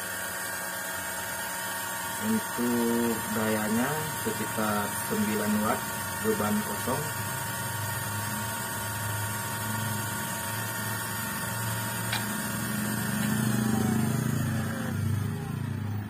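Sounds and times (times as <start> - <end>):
grass trimmer motor whining: 0.6 - 16.0.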